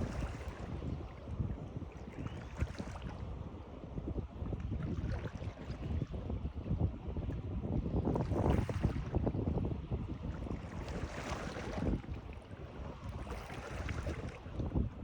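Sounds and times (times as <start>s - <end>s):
water lapping and splashing: 0.0s - 15.0s.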